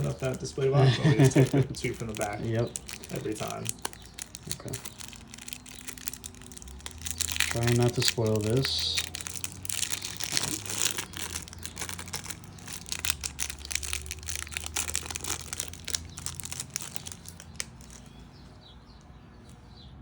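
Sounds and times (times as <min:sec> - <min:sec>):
cards being handled: 0:00.0 - 0:18.2
foil wrappers crinkling: 0:00.0 - 0:18.4.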